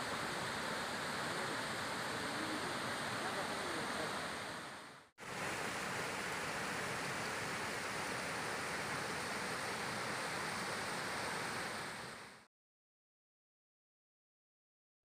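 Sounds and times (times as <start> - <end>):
river water rushing over rapids: 0.0 - 12.4.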